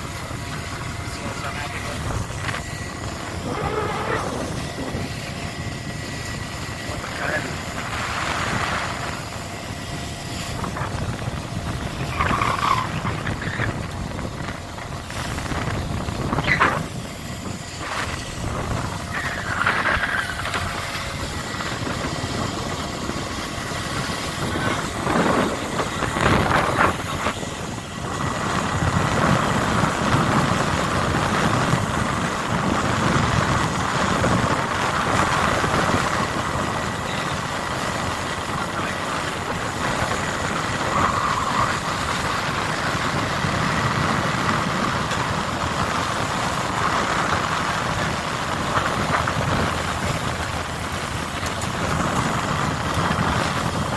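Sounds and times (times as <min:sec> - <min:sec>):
boat engine and deck machinery: 0:00.0 - 0:53.9.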